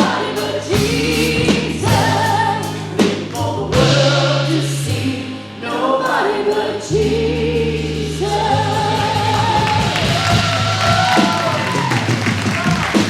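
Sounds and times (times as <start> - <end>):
sustained bass: 0.0 - 13.0.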